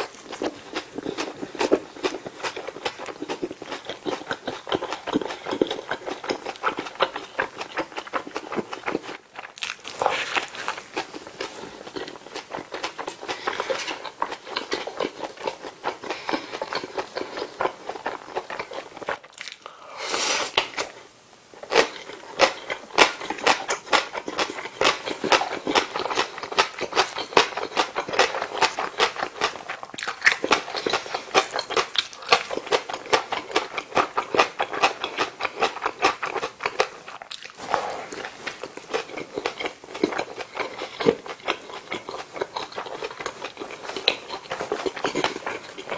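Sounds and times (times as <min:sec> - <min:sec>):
chewing with wet mouth clicks: 0:00.0 - 0:19.7, 0:21.7 - 0:45.9.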